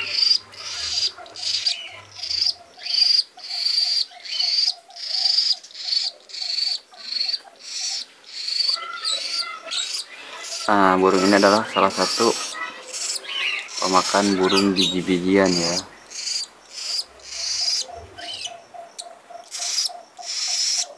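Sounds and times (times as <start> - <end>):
parrot chick raspy calls: 0.0 - 20.9.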